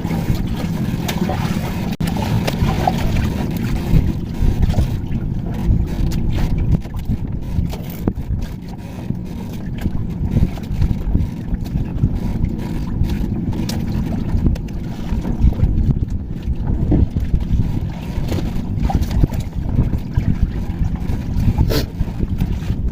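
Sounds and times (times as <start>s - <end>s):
wind buffeting microphone: 0.0s - 22.9s.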